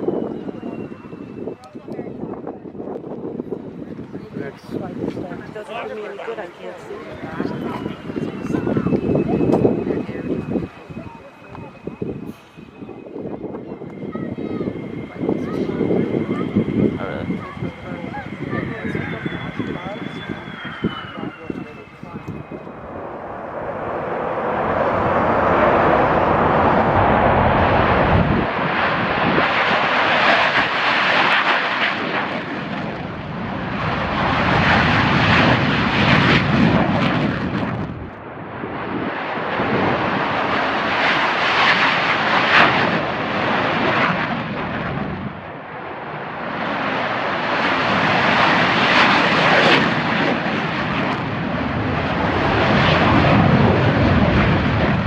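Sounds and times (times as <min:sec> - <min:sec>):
fighter jets roaring past: 0:00.0 - 0:55.0.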